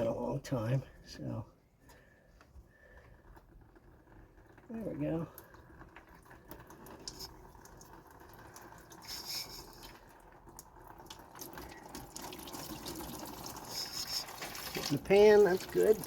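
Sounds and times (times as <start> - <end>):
coolant trickling into pan: 1.9 - 16.0.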